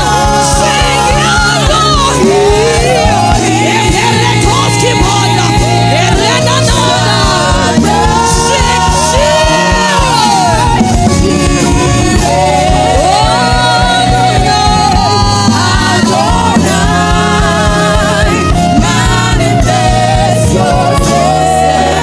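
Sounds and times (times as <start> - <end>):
gospel song with beat and bass: 0.0 - 22.0.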